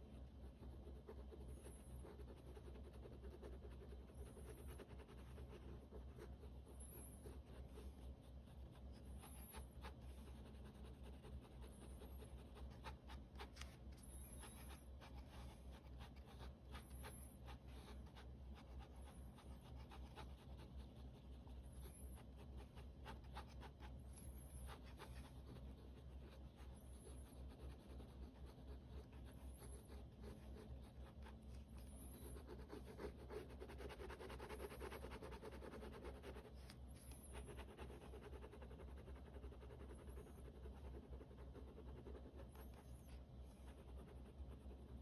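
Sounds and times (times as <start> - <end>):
pen scratching on paper: 0.2 - 45.0.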